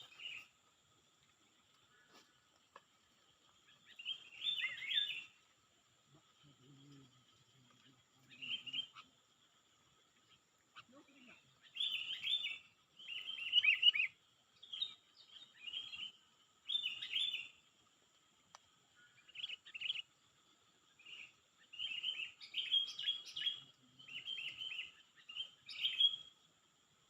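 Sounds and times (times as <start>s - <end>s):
songbird singing chirpy phrases: 0.0s - 27.0s.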